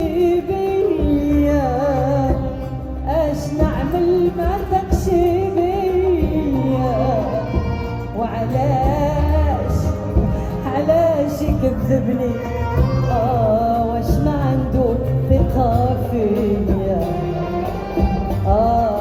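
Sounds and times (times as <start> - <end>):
live ensemble song: 0.0 - 19.0.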